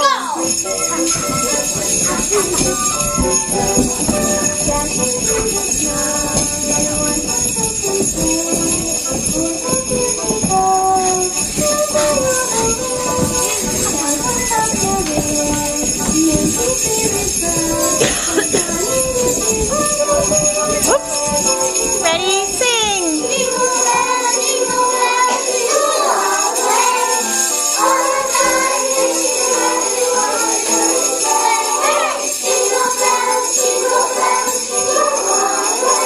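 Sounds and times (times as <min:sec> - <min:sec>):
sleigh bells jingling: 0:00.0 - 0:36.0.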